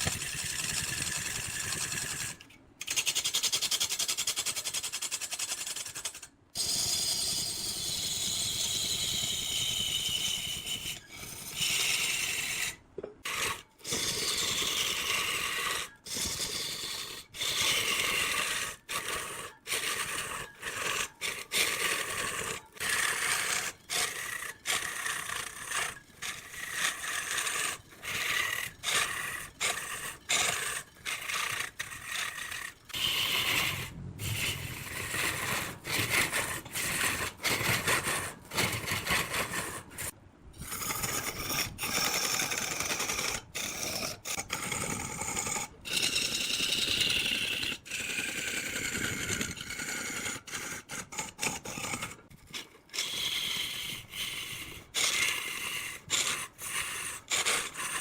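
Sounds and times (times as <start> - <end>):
woodworking tools scraping wood: 0.0 - 3.0, 10.6 - 16.7, 17.4 - 58.0.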